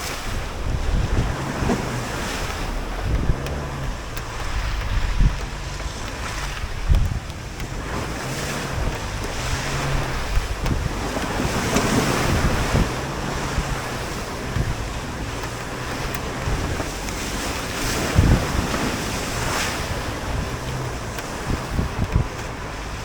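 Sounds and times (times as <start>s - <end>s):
engine running under load: 0.0s - 23.0s
mud and water rushing against tyres: 0.0s - 23.0s
dull thumps from suspension: 0.6s - 23.0s.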